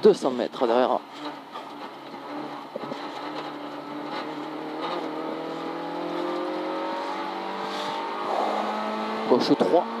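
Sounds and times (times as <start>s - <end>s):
car engine at full throttle: 0.0s - 10.0s.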